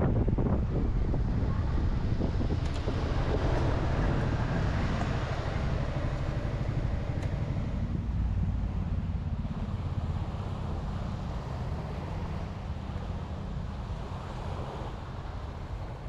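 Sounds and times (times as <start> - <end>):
scooter running and road noise: 0.0 - 16.0
wind rumble on microphone: 0.0 - 16.0.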